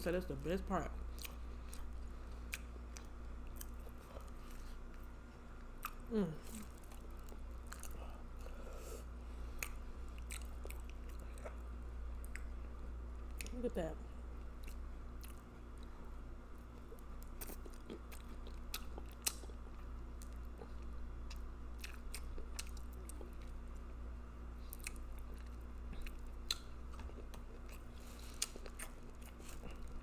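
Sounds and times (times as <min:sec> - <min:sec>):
low steady hum: 0:00.0 - 0:30.0
chewing and lip smacking: 0:01.1 - 0:08.6, 0:09.6 - 0:13.5, 0:14.5 - 0:16.0, 0:16.6 - 0:23.9, 0:24.7 - 0:30.0.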